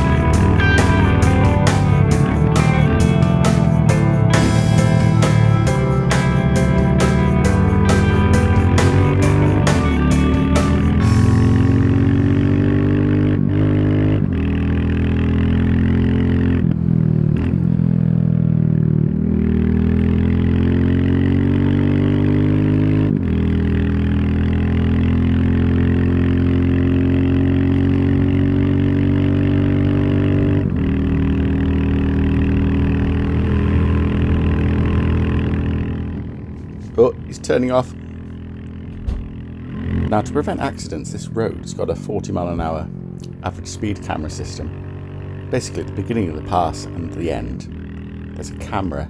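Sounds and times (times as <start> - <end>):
motorcycle engine under load: 0.0 - 49.0.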